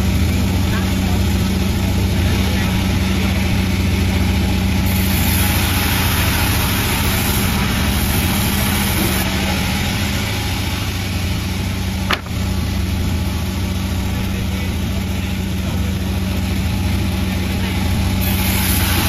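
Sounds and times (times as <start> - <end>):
sawmill engine hum: 0.0 - 19.0.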